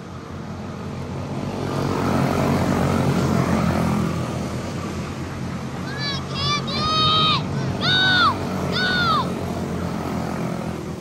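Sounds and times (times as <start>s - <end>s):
small race car engines buzzing: 0.0s - 11.0s.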